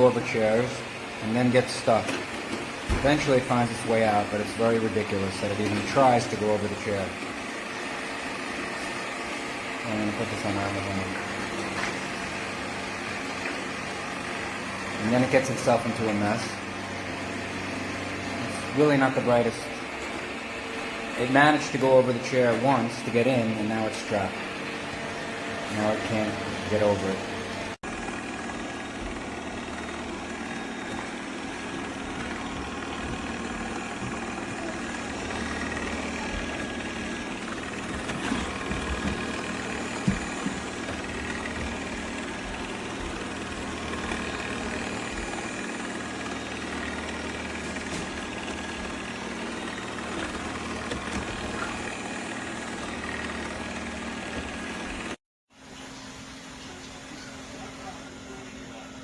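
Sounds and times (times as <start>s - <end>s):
robot vacuum running: 0.0s - 55.2s, 56.6s - 59.0s.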